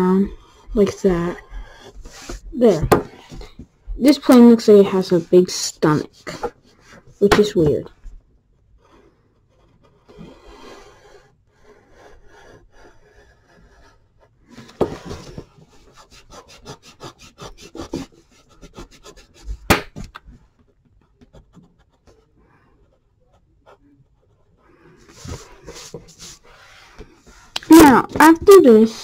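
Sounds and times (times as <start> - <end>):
pencil scratching on paper: 0.0 - 7.9, 8.8 - 19.8, 21.0 - 29.0.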